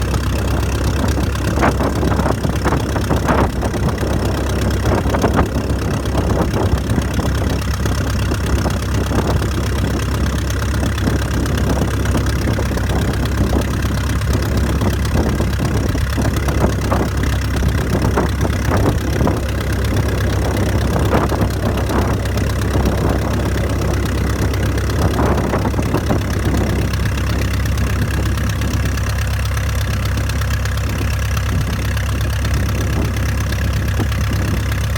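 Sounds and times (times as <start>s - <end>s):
aero engine idling: 0.0s - 34.9s.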